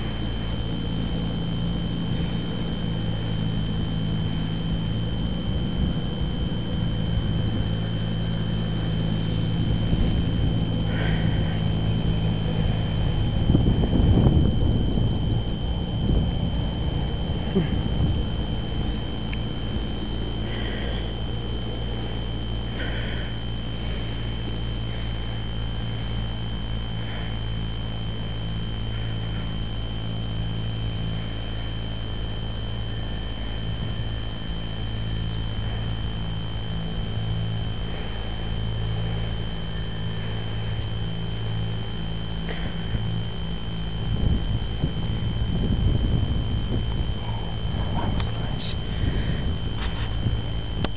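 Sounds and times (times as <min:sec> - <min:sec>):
crickets trilling: 0:00.0 - 0:50.9
low steady hum: 0:00.0 - 0:50.9
pulsed cricket chirp: 0:00.0 - 0:50.9.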